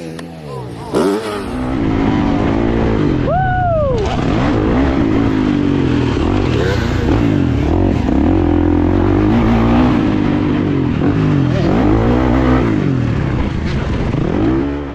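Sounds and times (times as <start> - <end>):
dirt bike engines revving: 0.0 - 14.9.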